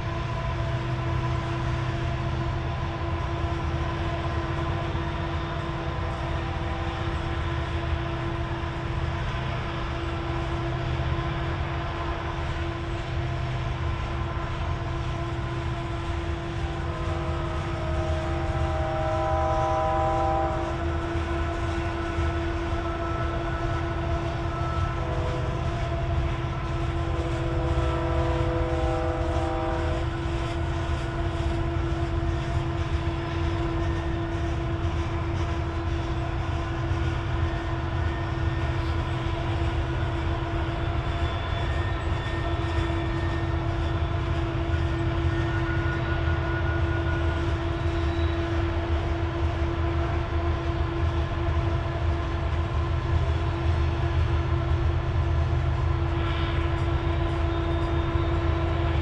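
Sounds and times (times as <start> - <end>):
continuous hum: 0.0 - 59.0
train wheels rumbling on rail: 0.0 - 59.0.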